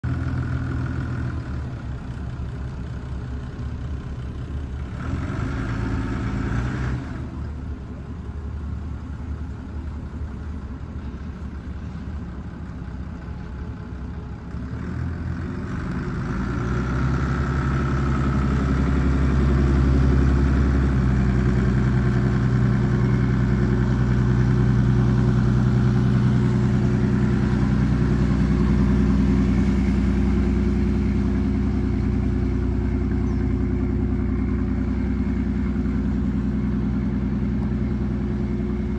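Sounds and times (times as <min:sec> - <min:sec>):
boat engine idling and revving: 0:00.0 - 0:38.9.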